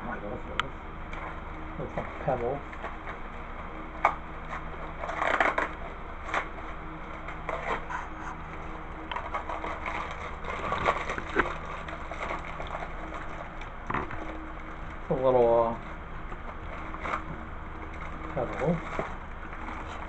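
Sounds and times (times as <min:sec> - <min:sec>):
cardboard and plastic rustling: 0:01.1 - 0:20.0.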